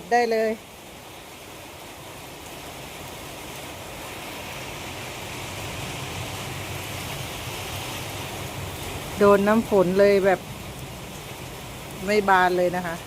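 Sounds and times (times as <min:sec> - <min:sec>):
rain falling on plants: 0:00.0 - 0:13.0.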